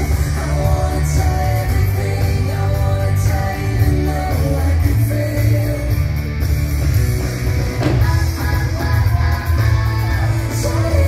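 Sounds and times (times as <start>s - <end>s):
soundtrack music with strong bass: 0.0s - 11.0s.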